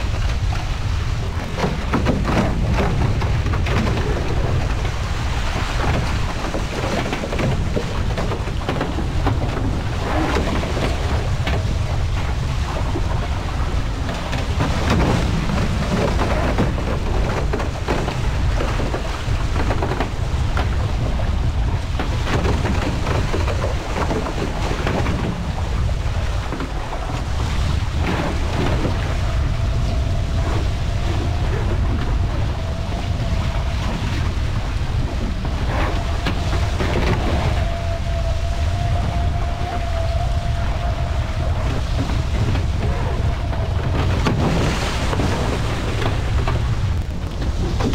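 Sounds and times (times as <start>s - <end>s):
water rushing off hull: 0.0s - 47.9s
wind buffeting microphone: 0.0s - 47.9s.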